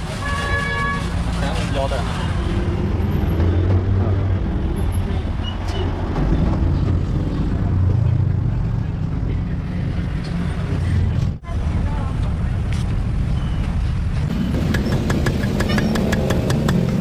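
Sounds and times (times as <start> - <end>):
vehicle engines passing: 1.0 - 17.0.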